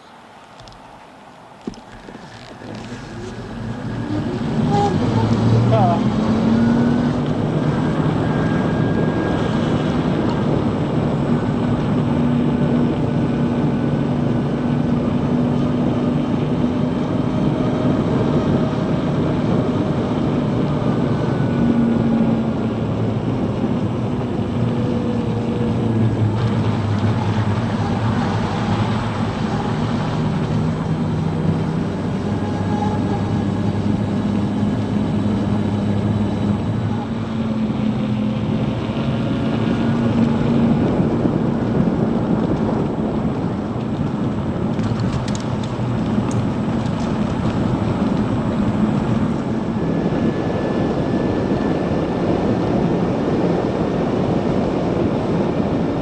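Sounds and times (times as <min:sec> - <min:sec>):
low motor hum: 0:00.0 - 0:55.9
wind and road noise: 0:00.0 - 0:56.0.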